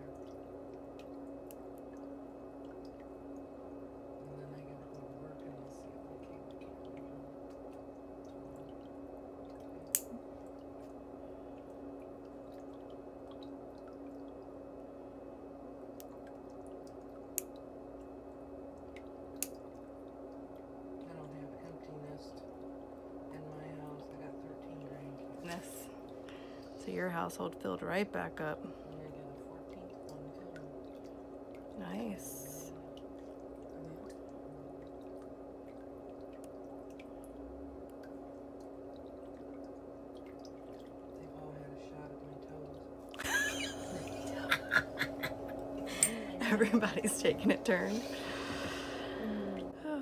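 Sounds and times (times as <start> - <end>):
steady low hum: 0.0 - 50.0
water dripping and trickling: 0.0 - 50.0.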